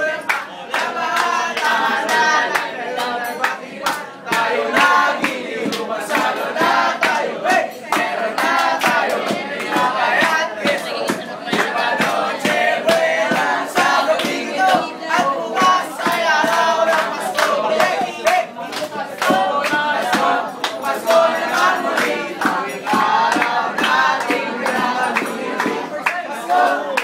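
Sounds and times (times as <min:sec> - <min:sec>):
group singing: 0:00.0 - 0:27.0
hand claps: 0:00.0 - 0:27.0.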